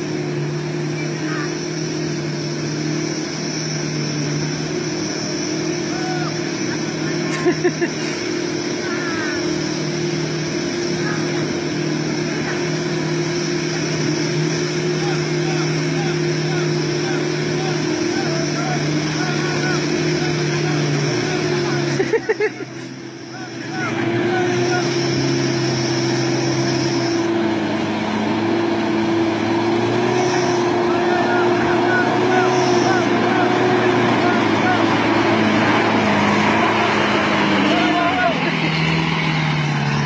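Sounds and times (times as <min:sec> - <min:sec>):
high thin whine: 0:00.0 - 0:40.0
pickup truck engine running: 0:00.0 - 0:40.0.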